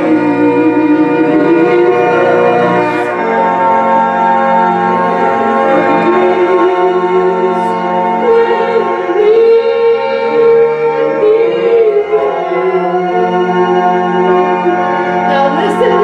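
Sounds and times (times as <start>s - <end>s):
held keyboard chords: 0.0s - 16.0s
person singing: 0.0s - 16.0s.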